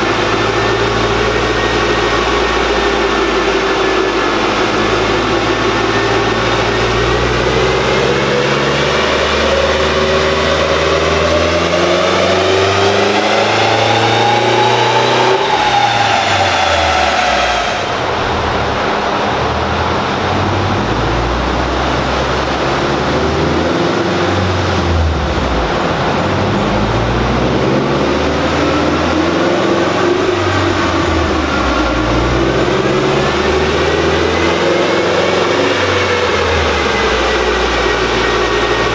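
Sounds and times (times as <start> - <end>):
turbocharged car engine revving: 0.0 - 38.9.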